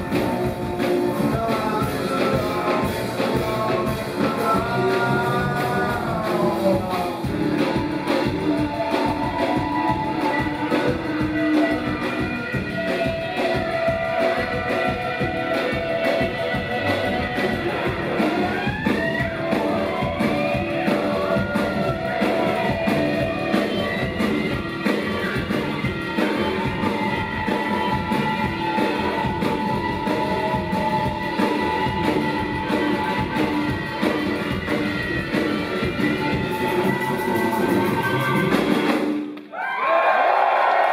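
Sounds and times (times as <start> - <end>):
drum beat: 0.0 - 39.3
rock band playing live: 0.0 - 39.5
guitar: 0.0 - 40.9.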